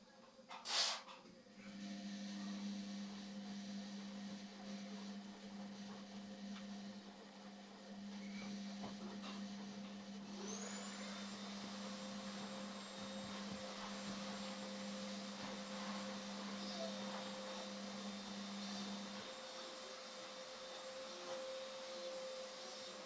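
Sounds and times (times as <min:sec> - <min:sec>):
washing machine motor hum: 0:01.3 - 0:23.0
drum motor rising whine: 0:01.7 - 0:23.0.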